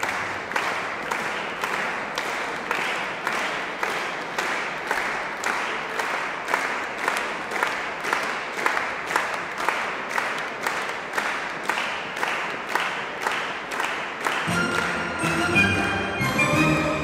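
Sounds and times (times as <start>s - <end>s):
audience clapping in rhythm: 0.0s - 17.0s.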